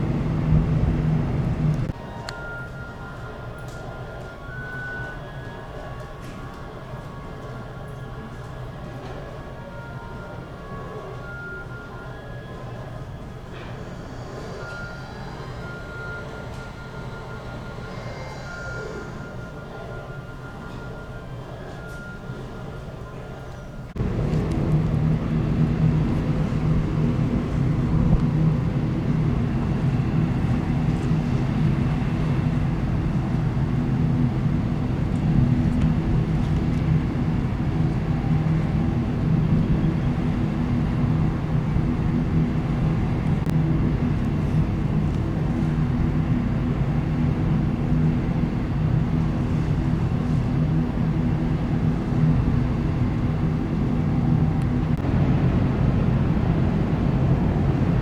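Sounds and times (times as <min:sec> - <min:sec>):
ferry engines humming: 0:00.0 - 0:58.0.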